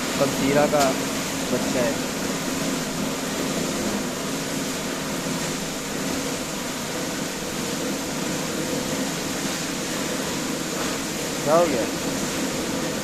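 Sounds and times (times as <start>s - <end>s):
fan hum and hiss: 0.0s - 13.0s.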